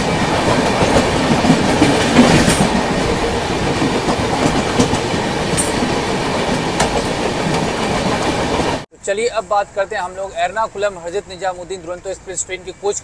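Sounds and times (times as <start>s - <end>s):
trains rushing past: 0.0s - 13.0s.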